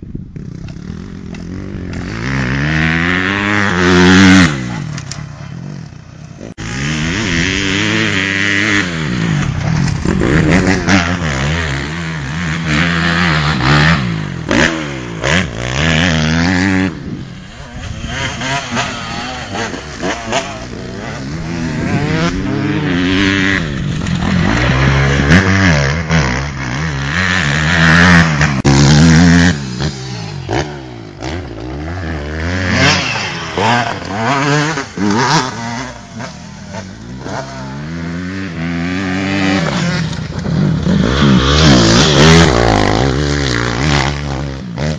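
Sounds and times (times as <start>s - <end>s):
motocross bike engine revving: 0.3s - 44.9s.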